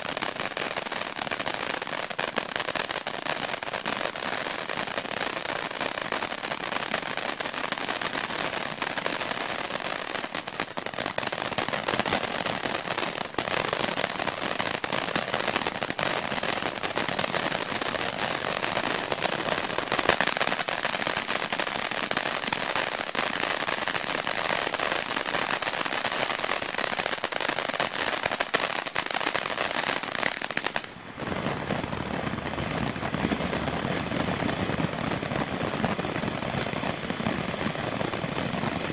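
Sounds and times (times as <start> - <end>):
firework fountain hissing: 0.0 - 38.9.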